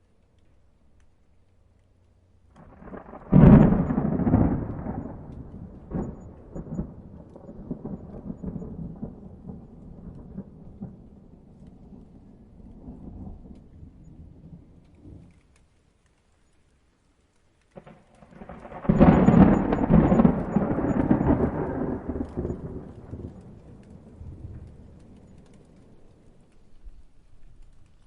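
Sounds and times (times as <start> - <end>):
thunder crack and rumble: 2.5 - 15.5, 17.8 - 27.8.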